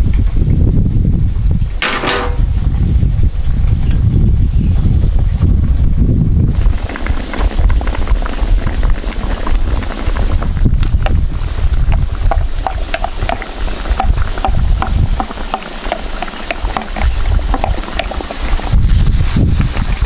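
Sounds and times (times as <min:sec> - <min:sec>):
broth bubbling in a wok: 0:01.9 - 0:20.0.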